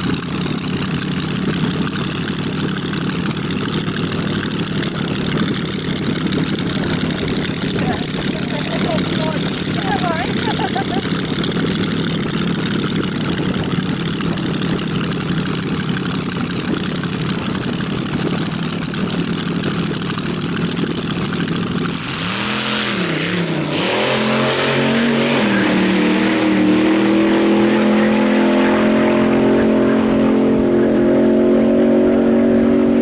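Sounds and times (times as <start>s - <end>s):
dragster engine revving: 0.0s - 33.0s.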